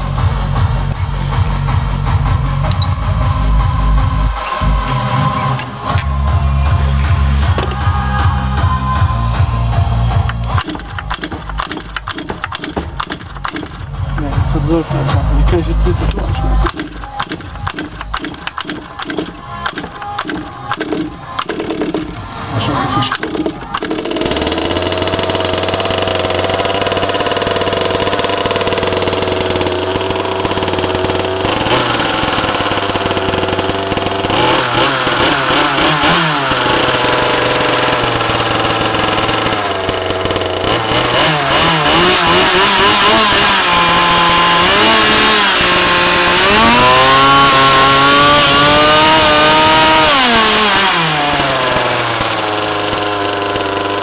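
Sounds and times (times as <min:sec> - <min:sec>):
two-stroke model engine revving: 0:03.3 - 0:54.0.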